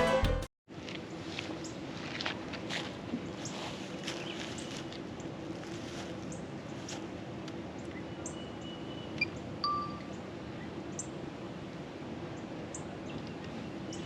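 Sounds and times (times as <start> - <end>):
steady background hum: 0.7 - 14.0.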